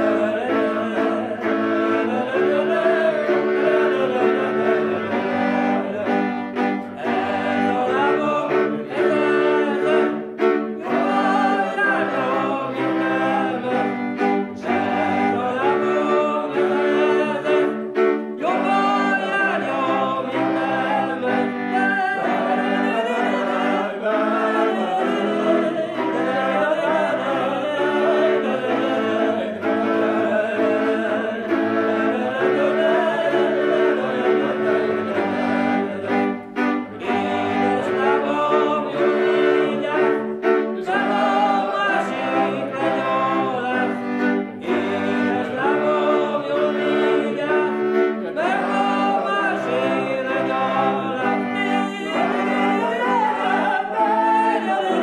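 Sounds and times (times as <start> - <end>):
man singing a folk song: 0.0 - 6.4, 10.8 - 17.8, 18.4 - 36.3, 37.0 - 55.0
fiddle melody: 0.0 - 55.0
rhythmic string chords: 0.0 - 55.0.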